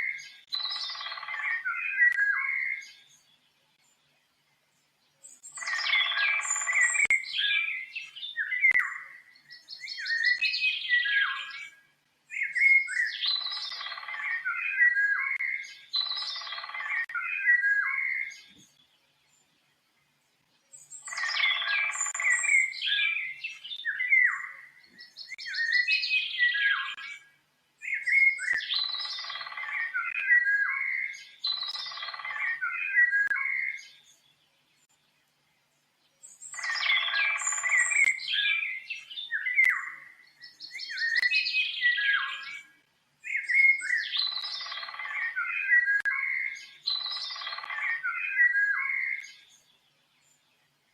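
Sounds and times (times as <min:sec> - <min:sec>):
birdsong chirps and whistles: 0:00.0 - 0:50.9.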